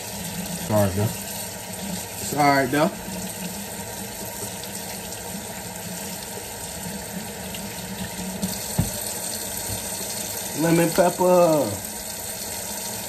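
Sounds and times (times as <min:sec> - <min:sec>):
faucet running into sink: 0:00.0 - 0:13.0.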